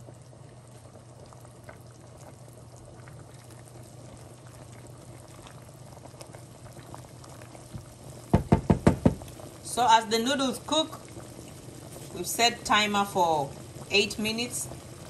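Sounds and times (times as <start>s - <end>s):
water bubbling at a boil: 0.0s - 15.0s.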